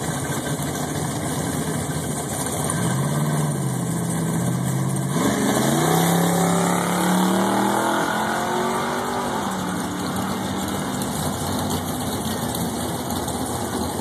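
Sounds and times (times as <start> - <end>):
car engine at full throttle: 0.0 - 14.0.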